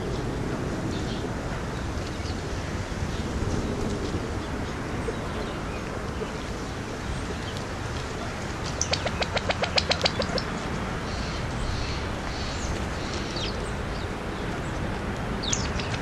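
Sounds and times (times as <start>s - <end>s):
rapid sharp clicks from birds: 0.0s - 16.0s
steady outdoor hiss: 0.0s - 16.0s.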